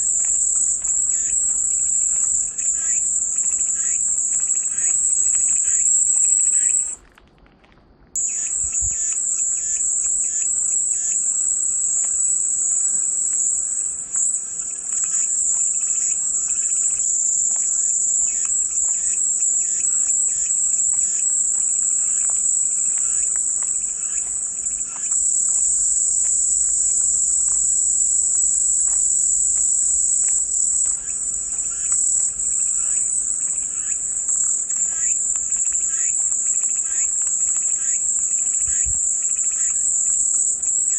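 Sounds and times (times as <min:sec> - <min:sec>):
cicadas buzzing: 0:00.0 - 0:07.0, 0:08.2 - 0:40.9
faint chirps: 0:00.0 - 0:07.0, 0:08.2 - 0:40.9.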